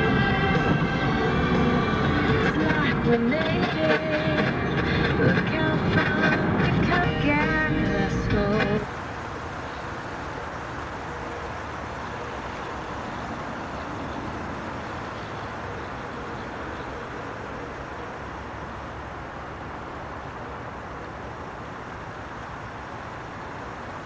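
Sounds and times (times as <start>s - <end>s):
distant traffic hum: 0.0s - 24.0s.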